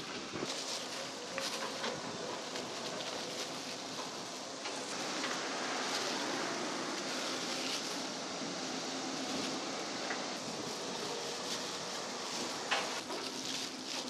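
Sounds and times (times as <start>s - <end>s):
plastic glove rustling: 0.0s - 14.0s
steady background hiss: 0.0s - 14.0s.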